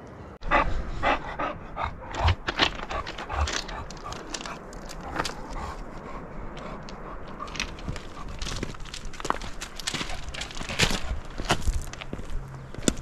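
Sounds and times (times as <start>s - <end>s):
hard breathing: 0.4s - 11.4s
footsteps crunching on rocky trail: 2.2s - 13.0s.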